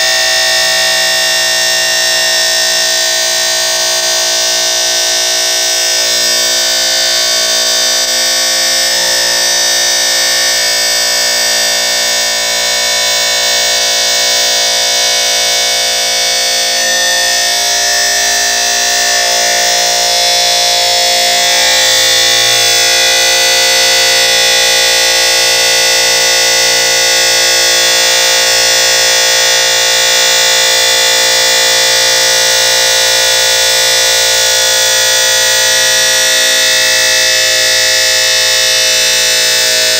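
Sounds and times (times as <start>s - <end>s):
cut-off disc grinding metal: 0.0s - 39.9s.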